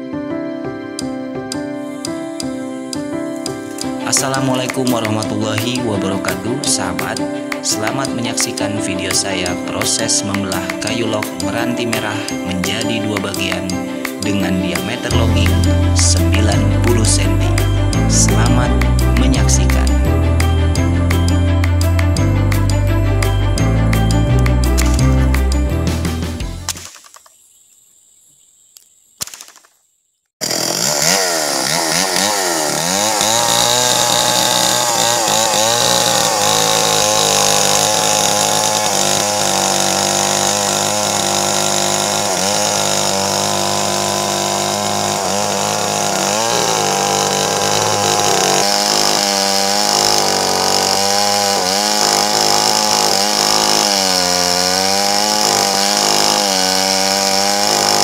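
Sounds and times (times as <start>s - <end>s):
chainsaw cutting log: 3.4s - 27.2s, 30.4s - 58.0s.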